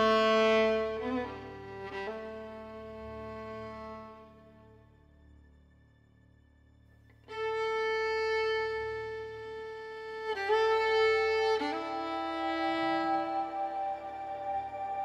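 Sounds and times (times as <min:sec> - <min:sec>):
violin playing long held notes: 0:00.0 - 0:04.9, 0:07.3 - 0:15.0.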